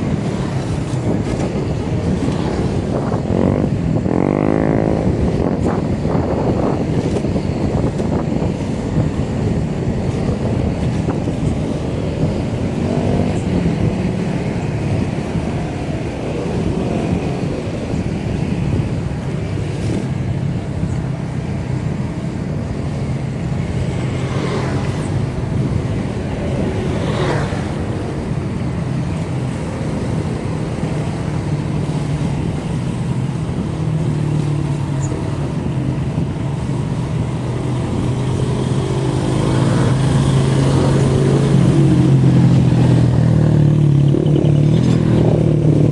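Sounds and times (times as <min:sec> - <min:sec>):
bicycle road and wind noise: 0:00.0 - 0:45.9.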